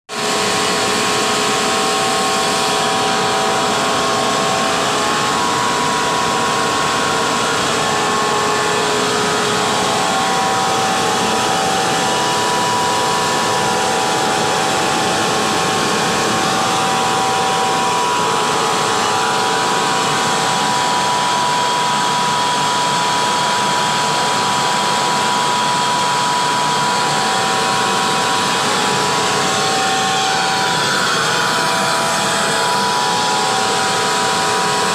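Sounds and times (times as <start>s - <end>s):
air compressor running: 0.2s - 34.9s.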